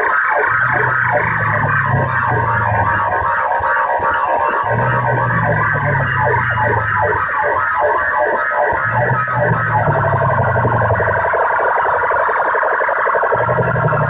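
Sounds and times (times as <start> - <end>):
loud distorted music: 0.0 - 14.0
siren-like effect: 0.0 - 14.0.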